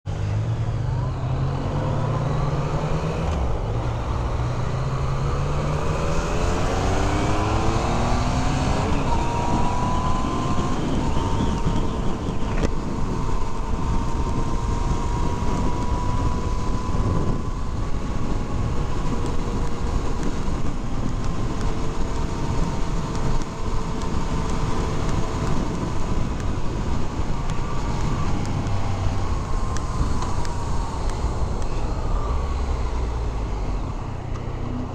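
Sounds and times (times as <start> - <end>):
motorcycle engine accelerating: 0.1 - 34.9
wind rush: 0.2 - 34.9.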